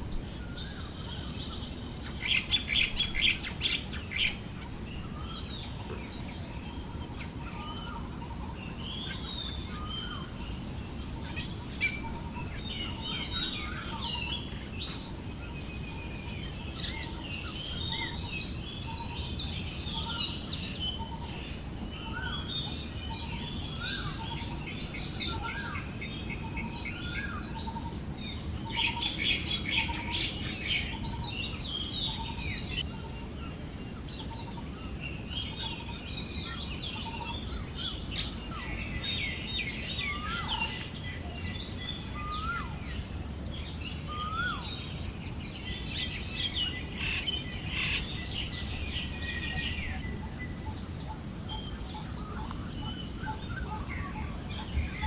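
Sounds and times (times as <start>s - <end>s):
birds chirping and calling: 0.5s - 55.0s.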